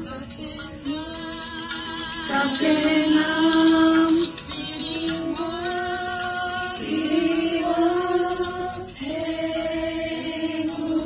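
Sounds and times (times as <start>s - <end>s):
people chanting together: 2.1s - 11.0s.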